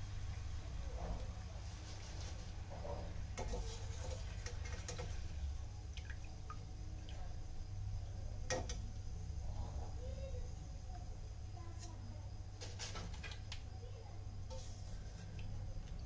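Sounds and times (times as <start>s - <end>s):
skimmer lifting food from hot oil: 0.0s - 16.0s.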